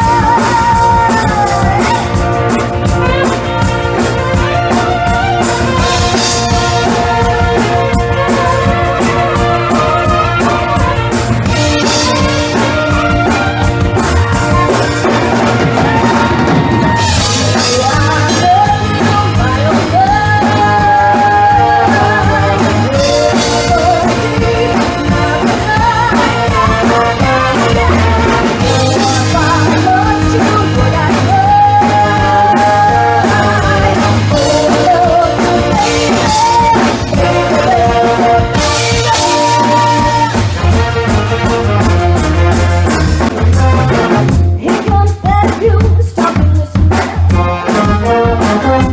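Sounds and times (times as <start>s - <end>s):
band playing funky rock music: 0.0s - 48.9s.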